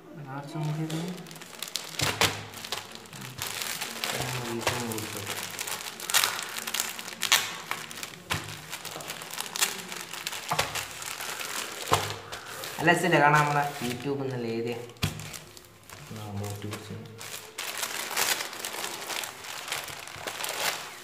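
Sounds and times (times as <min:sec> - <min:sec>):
plastic bag crinkling: 0:00.3 - 0:21.0.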